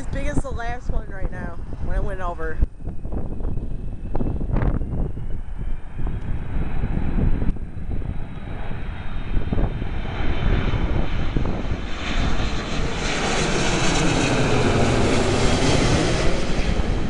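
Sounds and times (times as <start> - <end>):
jet airliner engines roaring: 0.0 - 17.0
wind buffeting microphone: 0.0 - 17.0.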